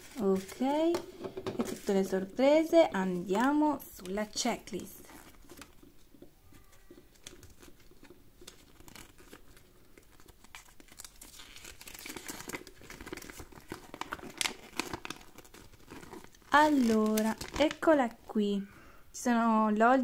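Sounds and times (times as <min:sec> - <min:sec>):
cardboard and paper crinkling: 0:00.0 - 0:18.0.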